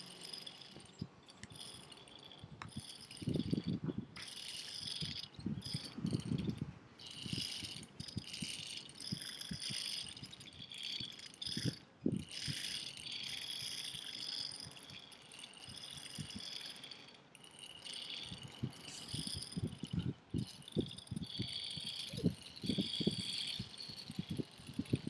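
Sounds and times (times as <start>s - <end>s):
high chirring: 0.0s - 25.0s
wooden toy rattling and clicking: 0.0s - 25.0s.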